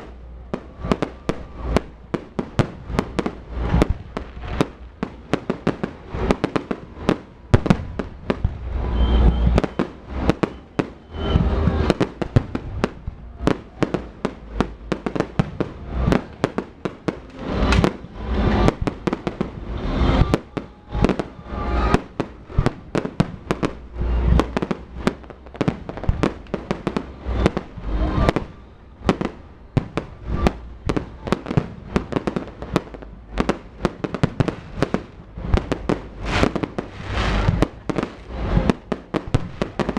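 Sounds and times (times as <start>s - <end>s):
deep firework booms: 0.0s - 39.9s
fireworks bangs and crackles: 0.0s - 39.9s.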